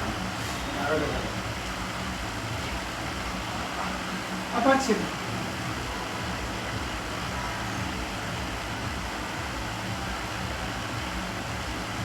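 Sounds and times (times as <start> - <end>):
electric fan running: 0.0 - 12.0.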